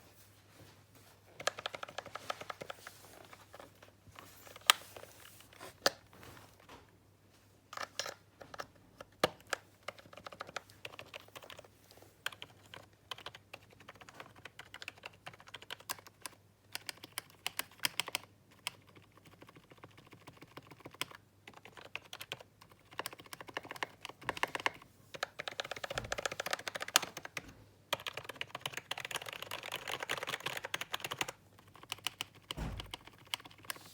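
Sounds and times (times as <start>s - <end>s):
computer keyboard typing: 1.4s - 2.8s, 7.8s - 33.8s.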